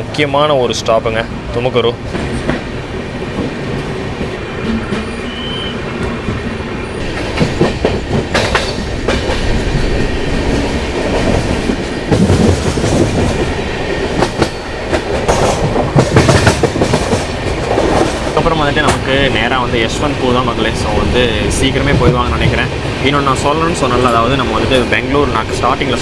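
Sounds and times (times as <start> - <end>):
train coaches rumbling: 0.0 - 26.0
train wheels clacking: 1.5 - 26.0.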